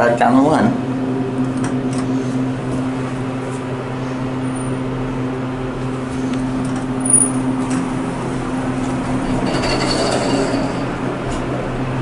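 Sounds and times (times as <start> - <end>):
elevator humming: 0.0 - 12.0.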